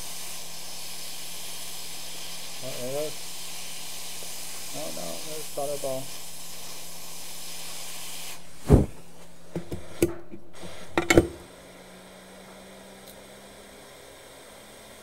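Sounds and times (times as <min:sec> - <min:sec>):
hot air blower hissing: 0:00.0 - 0:15.0.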